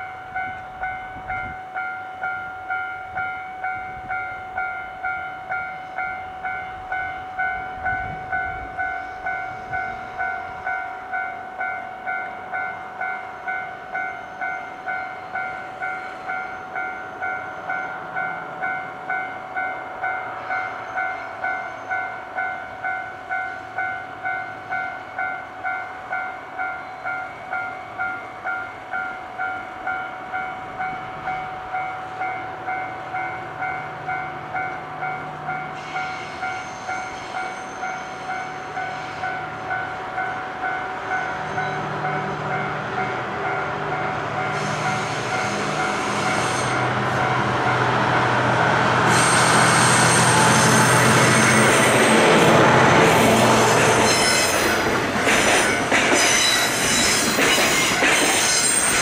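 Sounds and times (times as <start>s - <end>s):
diesel locomotive engine hum: 0.0s - 59.0s.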